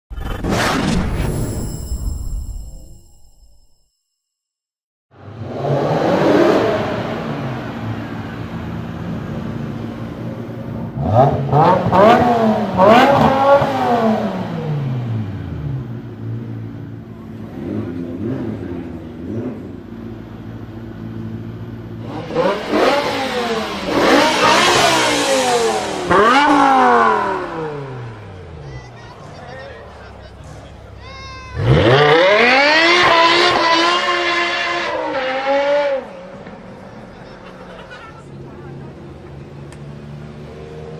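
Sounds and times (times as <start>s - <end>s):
car engine idling and revving: 5.1s - 40.9s.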